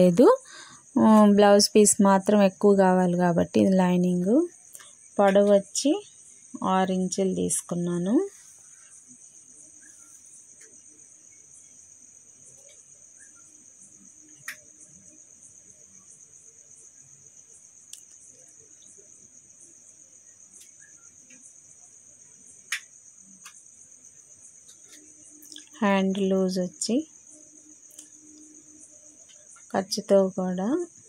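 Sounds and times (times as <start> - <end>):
high-pitched insect trill: 0.0 - 31.0.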